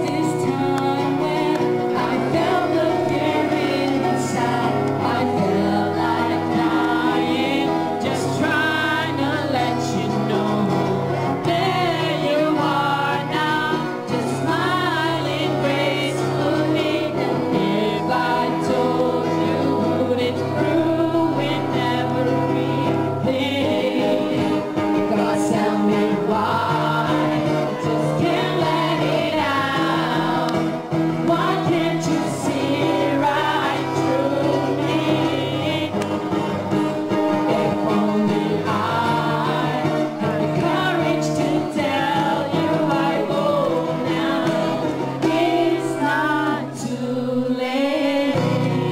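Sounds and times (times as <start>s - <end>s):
voices singing in harmony: 0.0s - 48.9s.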